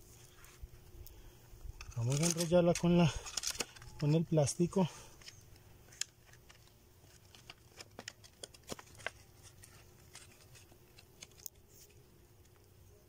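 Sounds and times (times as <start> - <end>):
stiff plastic crinkling and clicking: 1.8 - 12.8.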